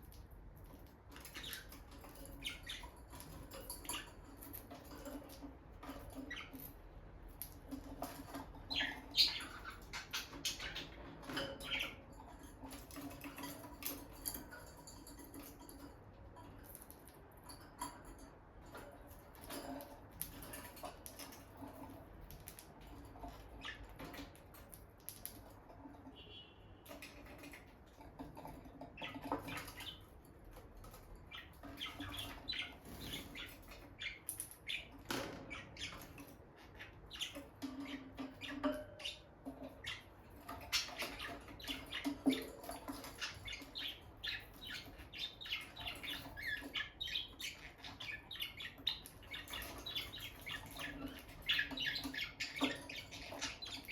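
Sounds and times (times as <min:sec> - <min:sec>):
birds scratching and clicking: 0:00.0 - 0:53.9
lovebirds chirping and twittering: 0:00.0 - 0:53.9.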